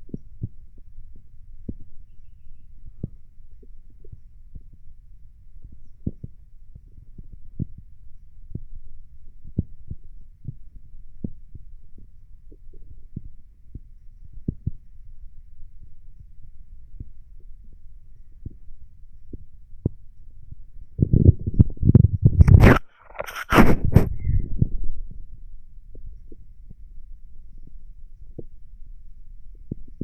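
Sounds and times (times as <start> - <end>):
stomach rumbling and gurgling: 2.8 - 28.7, 29.5 - 30.0.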